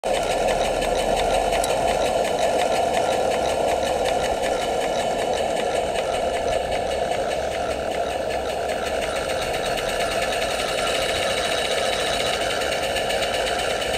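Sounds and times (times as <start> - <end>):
steam engine and winch clattering: 0.0 - 13.9.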